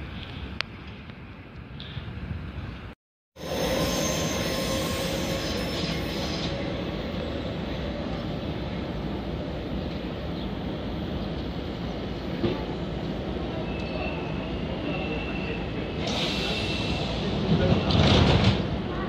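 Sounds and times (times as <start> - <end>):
train rumbling on rails: 2.0 - 19.0.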